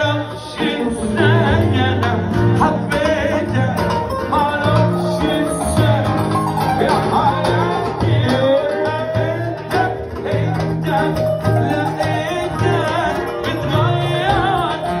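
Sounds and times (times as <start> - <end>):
acoustic guitar: 0.0 - 15.0
man singing ornamented lines: 0.0 - 15.0.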